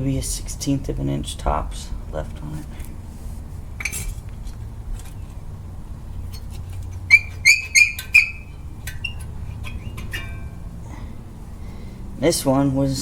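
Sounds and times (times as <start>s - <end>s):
brake pads clinking: 0.0s - 13.0s.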